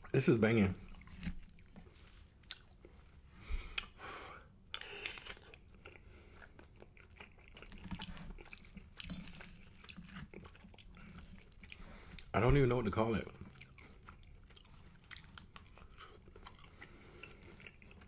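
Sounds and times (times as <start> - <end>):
close chewing: 0.0 - 4.0, 4.7 - 18.0.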